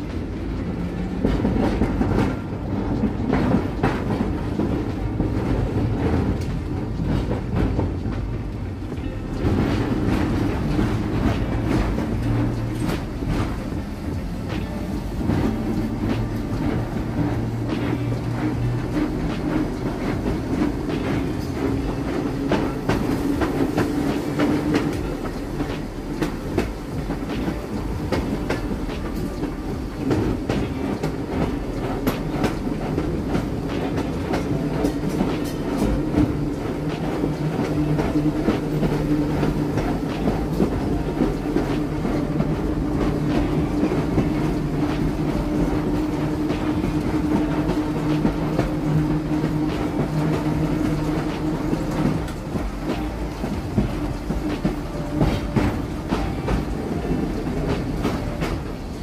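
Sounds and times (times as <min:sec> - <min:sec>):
streetcar hum: 0:00.0 - 0:59.0
wheels clacking over rails: 0:00.0 - 0:59.0.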